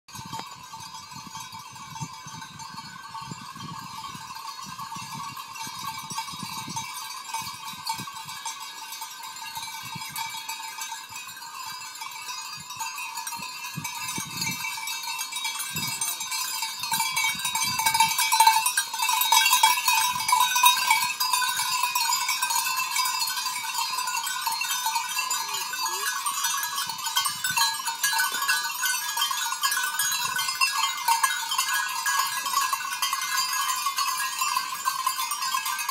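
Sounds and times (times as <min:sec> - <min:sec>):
goat bells jangling: 0:00.1 - 0:35.9.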